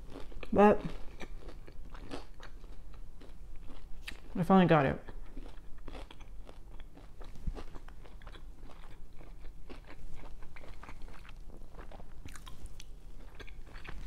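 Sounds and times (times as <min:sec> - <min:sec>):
crunchy chewing: 0:00.0 - 0:04.4, 0:05.0 - 0:14.0.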